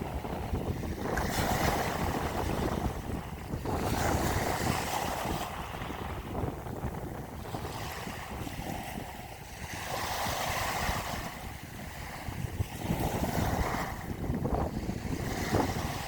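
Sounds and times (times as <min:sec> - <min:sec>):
sea waves surging: 0:00.0 - 0:16.0
wind rumbling on microphone: 0:00.0 - 0:16.0.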